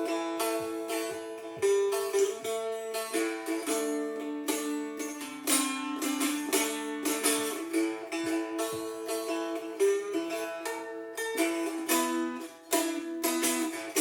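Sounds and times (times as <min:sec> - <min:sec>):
cigar box guitar plucked and strummed: 0:00.0 - 0:14.0.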